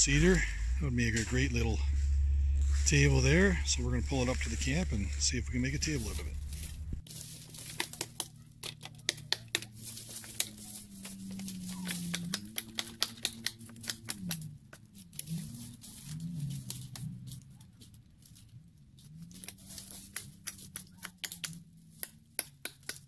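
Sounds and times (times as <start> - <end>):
dry leaves rustling: 0.0 - 23.0
wood cracking and splintering: 3.9 - 23.0
twigs breaking: 4.1 - 23.0.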